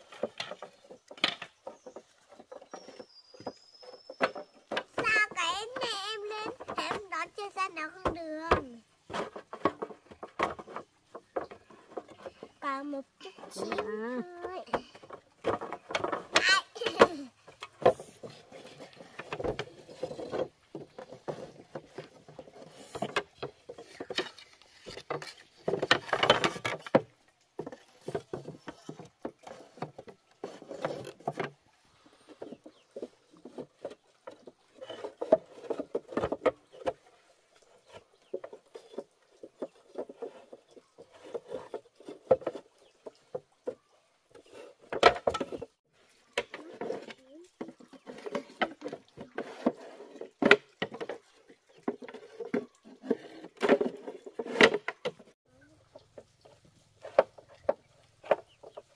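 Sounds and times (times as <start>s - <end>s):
bamboo knocking and scraping: 0.0s - 58.9s.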